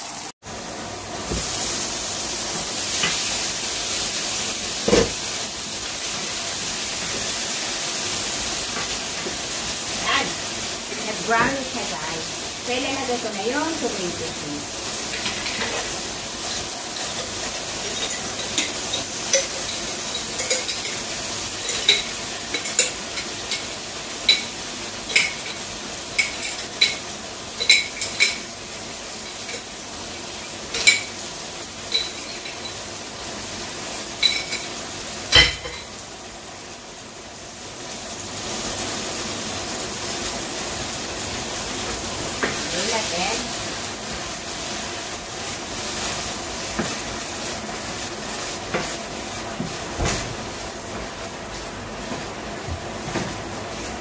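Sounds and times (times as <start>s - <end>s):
meatballs sizzling in pan: 0.0s - 54.0s.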